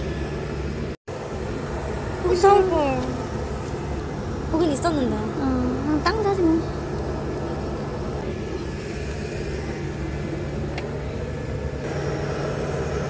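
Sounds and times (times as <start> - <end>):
city background hum and rumble: 0.0 - 13.0.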